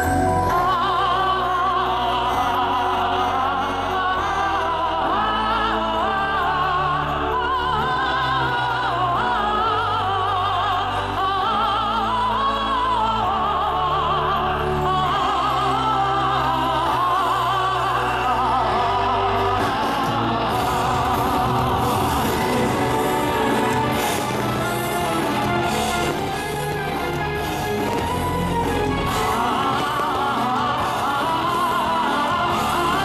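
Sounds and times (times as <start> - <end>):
operatic singing: 0.0 - 33.0
orchestral accompaniment: 0.0 - 33.0.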